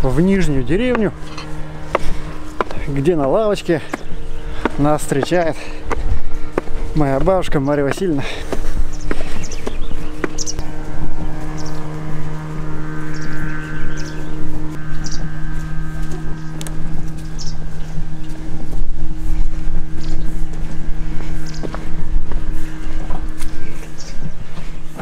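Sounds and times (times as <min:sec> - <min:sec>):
vehicle engine running steadily: 0:00.0 - 0:25.0.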